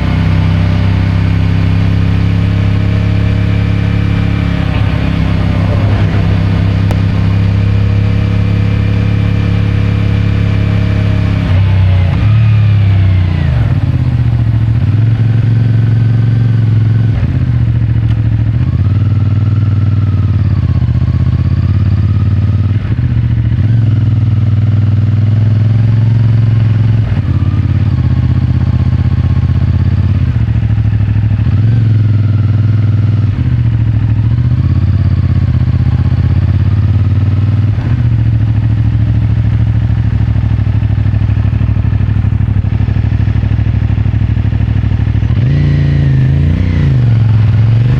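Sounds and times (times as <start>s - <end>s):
motorcycle engine and exhaust: 0.0s - 47.9s.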